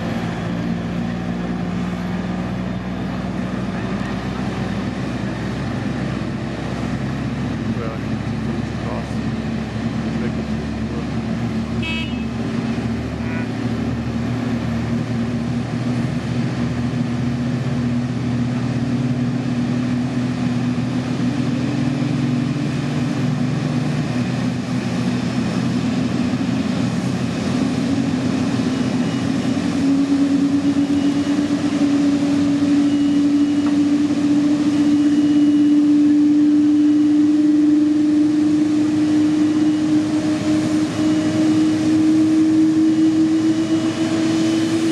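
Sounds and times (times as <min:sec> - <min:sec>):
jet engines whining and humming: 0:00.0 - 0:44.9.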